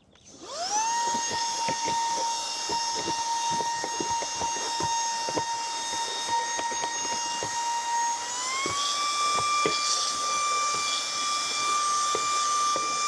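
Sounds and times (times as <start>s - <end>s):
handheld vacuum cleaner whine: 0.2s - 13.0s.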